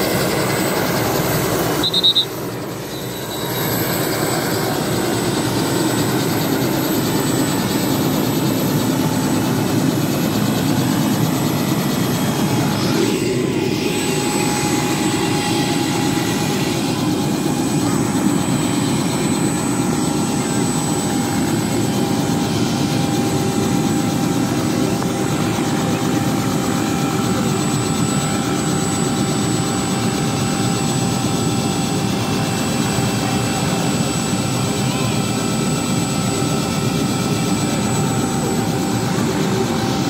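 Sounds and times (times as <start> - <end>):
helicopter idling: 0.0 - 40.0.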